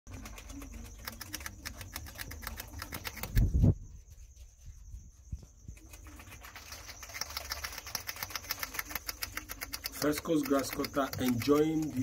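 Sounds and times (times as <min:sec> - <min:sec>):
rodent chewing with crisp crunching: 0:00.1 - 0:12.0.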